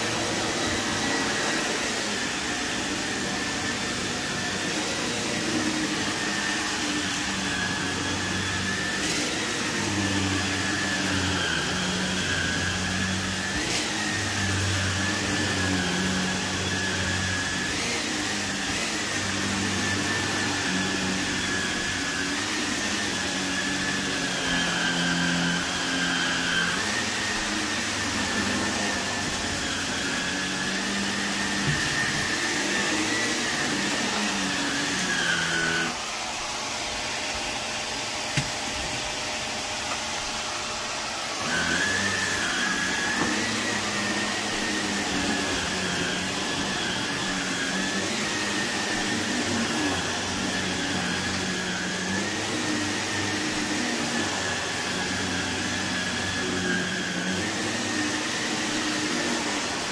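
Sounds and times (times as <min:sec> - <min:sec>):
upright vacuum running on carpet: 0:00.0 - 0:59.9.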